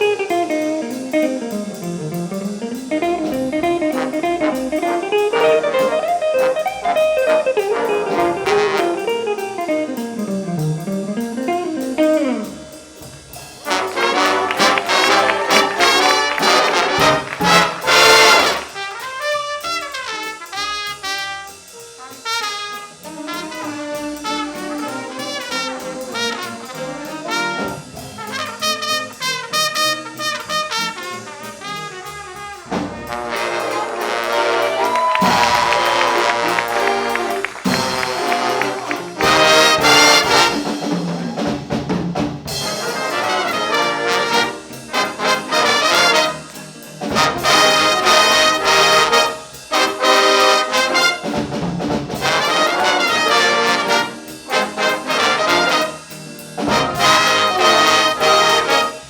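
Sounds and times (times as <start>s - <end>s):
trumpet and trombone hits: 0.0s - 41.8s, 42.4s - 59.0s
jazz big band playing: 0.0s - 59.0s.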